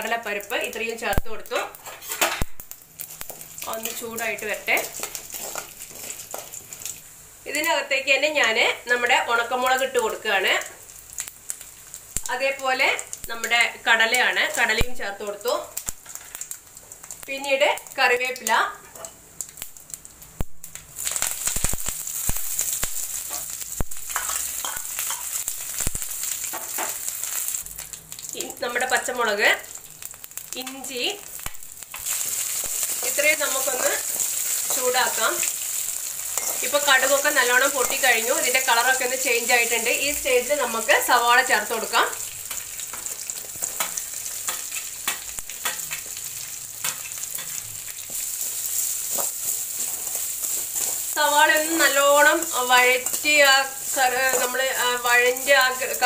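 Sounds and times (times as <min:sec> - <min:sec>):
seeds crackling and popping: 0:00.0 - 0:07.7, 0:08.4 - 0:18.7, 0:19.4 - 0:56.0
leaves sizzling in hot oil: 0:00.0 - 0:56.0.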